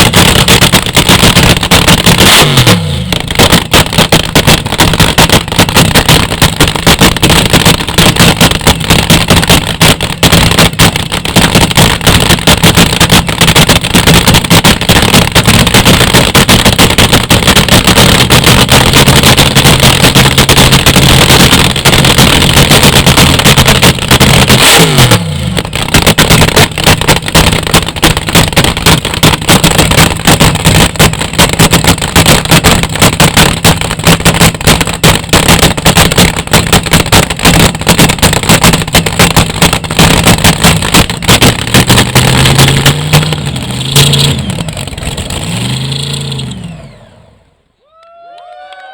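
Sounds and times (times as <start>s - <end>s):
loud rough racing engine: 0.0s - 47.7s.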